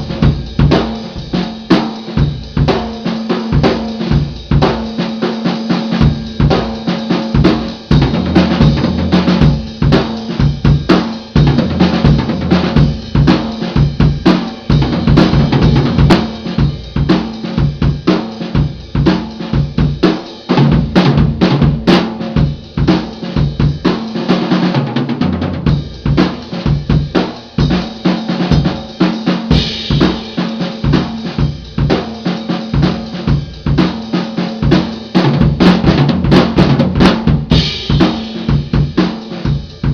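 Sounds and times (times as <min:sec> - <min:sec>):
acoustic drum kit playing: 0:00.0 - 0:39.9.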